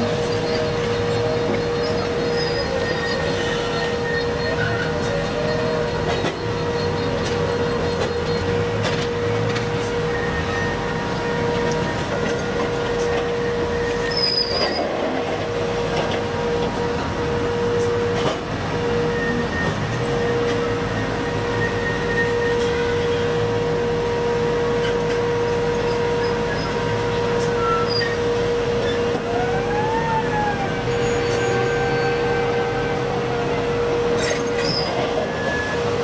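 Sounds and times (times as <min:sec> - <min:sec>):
heavy machinery rumble: 0:00.0 - 0:36.0.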